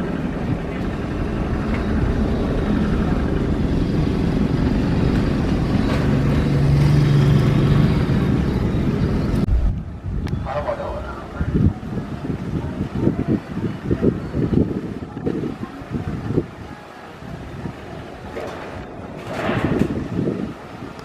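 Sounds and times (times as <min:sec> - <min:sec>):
aircraft engines rumbling: 0:00.0 - 0:21.0.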